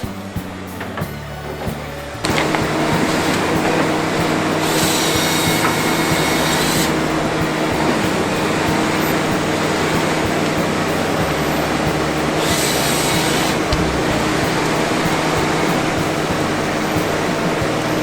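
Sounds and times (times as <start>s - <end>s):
harvester engine and hydraulic drone: 0.0s - 18.0s.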